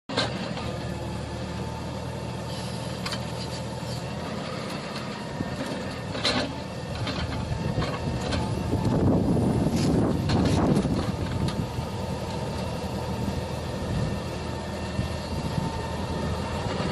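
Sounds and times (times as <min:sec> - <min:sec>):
diesel excavator engine running: 0:00.1 - 0:16.9.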